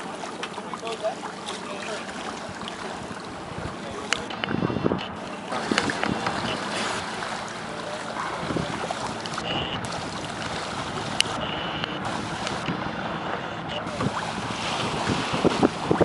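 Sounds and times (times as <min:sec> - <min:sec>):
water washing along hull: 0:00.0 - 0:16.0
wind buffeting microphone: 0:02.3 - 0:16.0.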